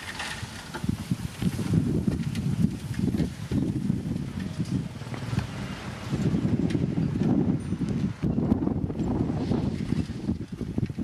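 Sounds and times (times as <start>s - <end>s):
heavy machinery rumbling: 0.0s - 11.0s
wind buffeting microphone: 0.0s - 11.0s.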